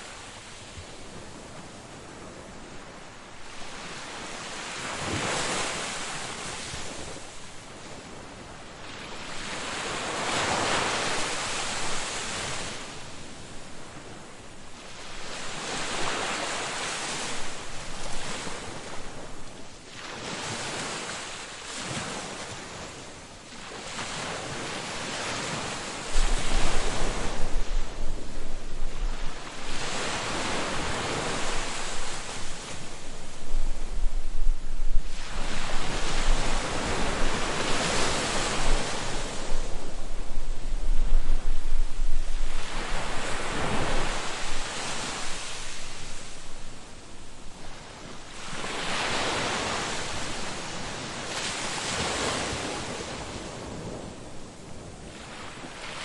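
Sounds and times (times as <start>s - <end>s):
waves breaking on beach: 0.0s - 56.0s
wind rumble on microphone: 0.0s - 56.0s.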